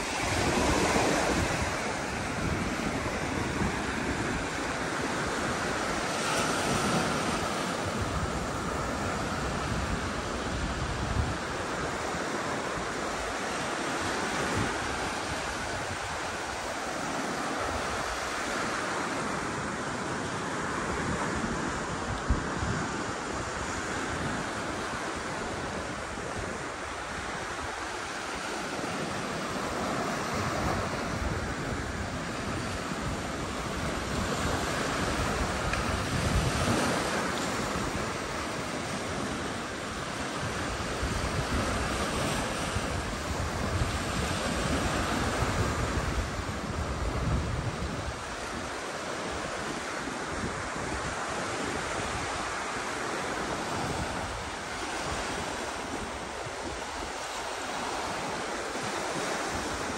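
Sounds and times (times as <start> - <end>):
sea waves washing onto shore: 0.0 - 59.9
wind buffeting microphone: 0.0 - 59.9.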